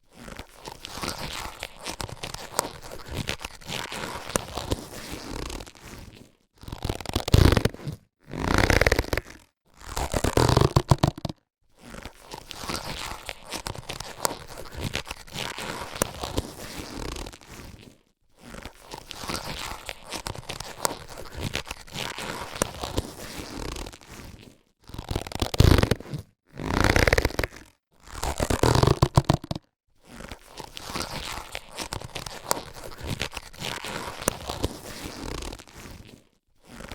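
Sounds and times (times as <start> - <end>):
latex gloves crinkling: 0.0 - 36.9.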